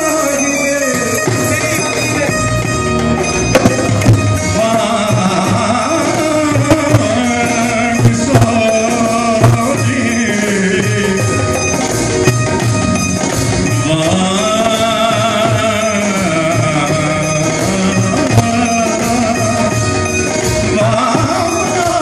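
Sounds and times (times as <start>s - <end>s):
man singing: 0.0s - 2.5s, 4.4s - 12.0s, 13.7s - 22.0s
drum beats: 0.0s - 22.0s
keyboard and guitar: 0.0s - 22.0s.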